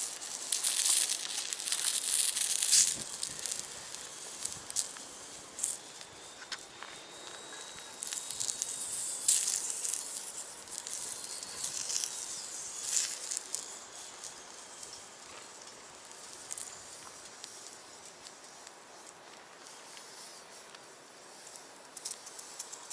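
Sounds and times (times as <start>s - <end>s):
wood fire hissing and crackling: 0.0s - 22.9s.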